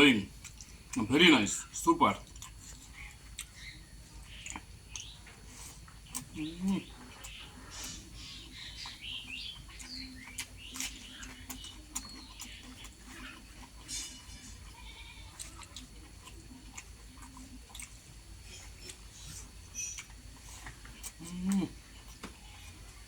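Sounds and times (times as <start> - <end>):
person chewing and lip smacking: 0.3 - 1.1, 2.2 - 23.0.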